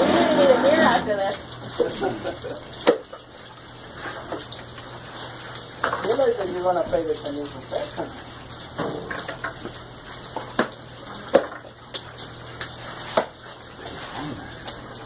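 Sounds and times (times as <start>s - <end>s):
water sounds: 0.0s - 15.0s.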